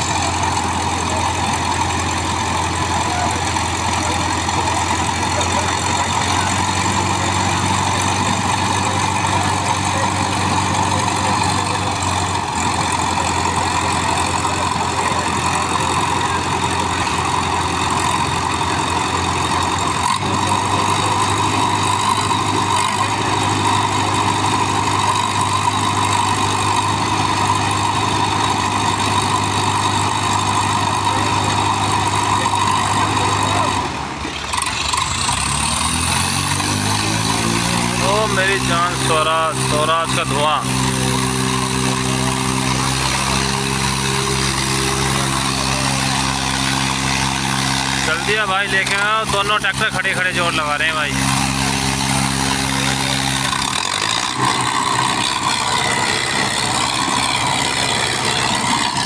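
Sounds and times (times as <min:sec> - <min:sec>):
deep low drone: 0:00.0 - 0:59.0
diesel tractor engines straining: 0:00.0 - 0:59.0.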